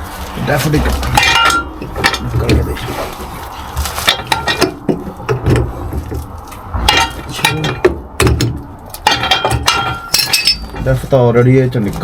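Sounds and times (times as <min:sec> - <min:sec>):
metal hand tools clanking: 0:00.0 - 0:11.3.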